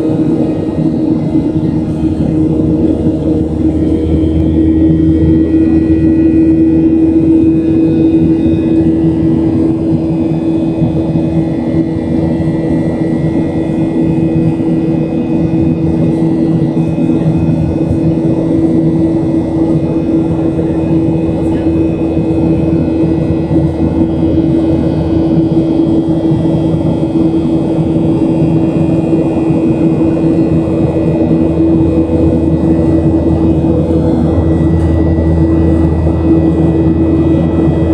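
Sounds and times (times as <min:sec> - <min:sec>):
jet engine drone in cabin: 0:00.0 - 0:37.9.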